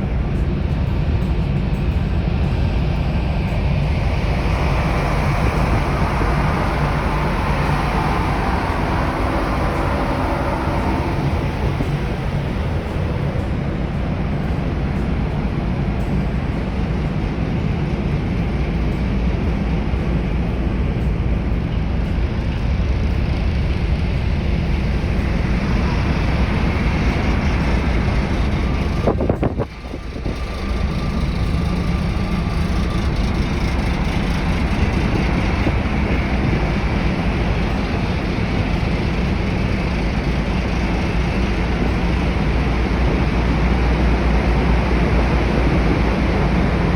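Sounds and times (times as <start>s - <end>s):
ship engines rumbling: 0.0s - 46.9s.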